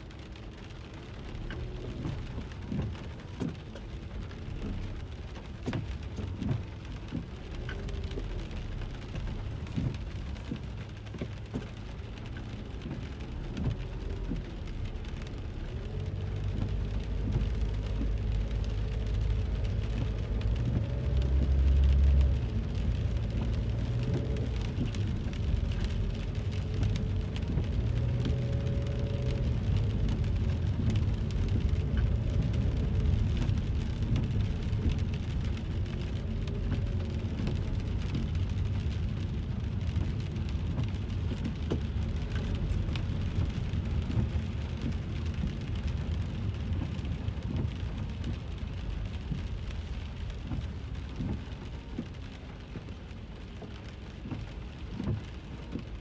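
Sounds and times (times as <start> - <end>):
car driving on wet road: 0.0 - 56.0
rain pattering on car roof: 0.0 - 56.0.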